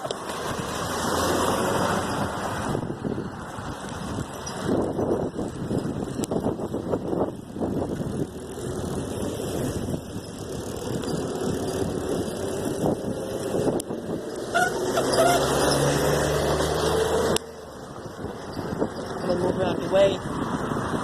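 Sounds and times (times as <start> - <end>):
vehicle engine approaching: 0.0 - 21.0.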